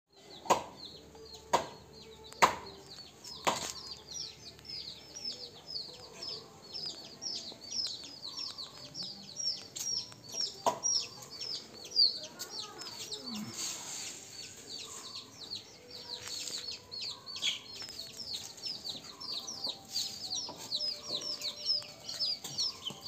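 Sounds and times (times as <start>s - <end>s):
chicks peeping: 0.1s - 23.0s.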